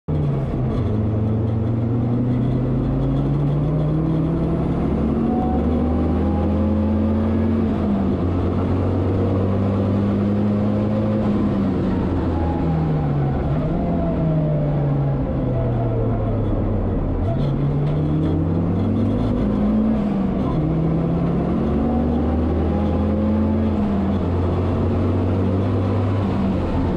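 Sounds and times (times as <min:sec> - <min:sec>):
race car engine revving: 0:00.2 - 0:26.9.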